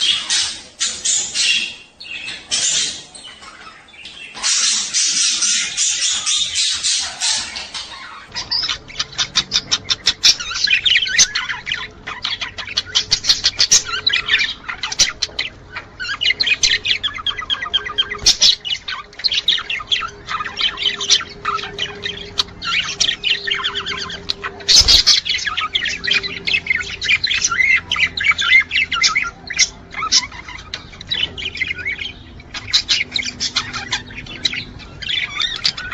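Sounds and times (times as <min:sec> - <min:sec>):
budgerigars chattering and warbling: 0:00.0 - 0:35.9.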